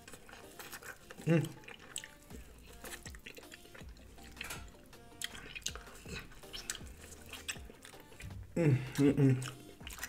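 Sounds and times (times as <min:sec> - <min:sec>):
quiet wet chewing: 0:00.0 - 0:10.0.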